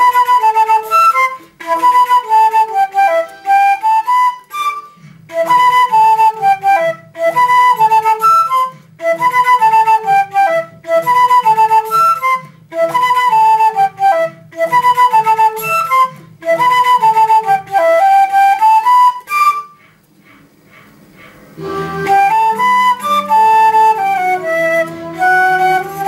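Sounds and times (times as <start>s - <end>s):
flute melody: 0.0s - 26.0s.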